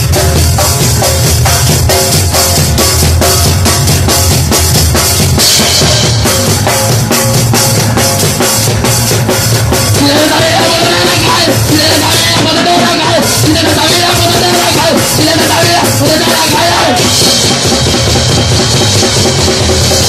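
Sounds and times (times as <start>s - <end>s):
punk band playing live: 0.0s - 20.0s.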